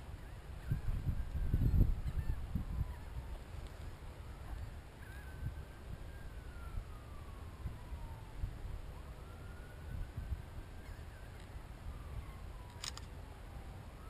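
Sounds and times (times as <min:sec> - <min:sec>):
distant siren wailing: 0:00.0 - 0:14.0.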